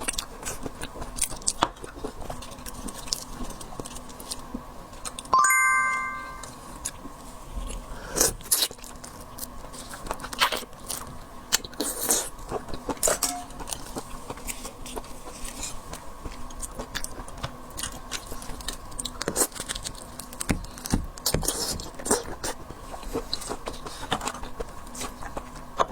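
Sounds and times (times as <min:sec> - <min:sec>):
chewing: 0:00.0 - 0:05.2, 0:07.7 - 0:25.9.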